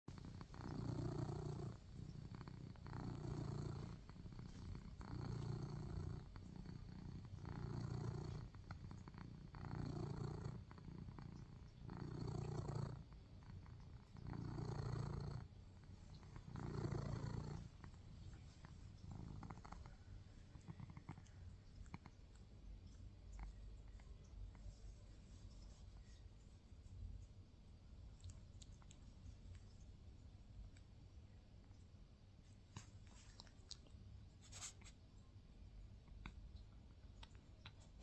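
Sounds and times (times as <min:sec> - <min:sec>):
cat purring: 0:00.0 - 0:38.0.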